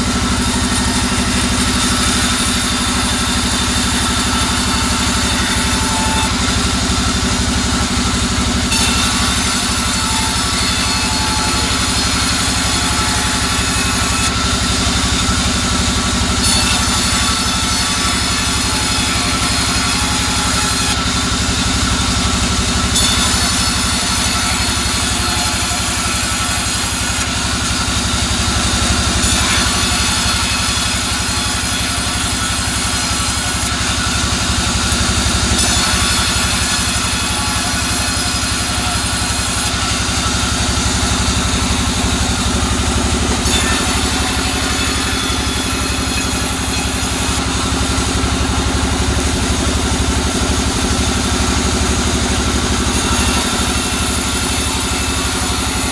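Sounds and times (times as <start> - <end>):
band saw drone: 0.0 - 55.9
saw cutting wood hiss: 0.0 - 55.9.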